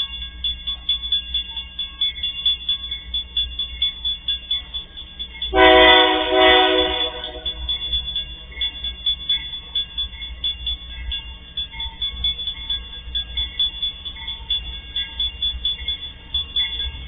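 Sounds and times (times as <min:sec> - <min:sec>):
diesel locomotive rumbling: 0:00.0 - 0:17.0
level-crossing bell dinging: 0:00.0 - 0:17.0.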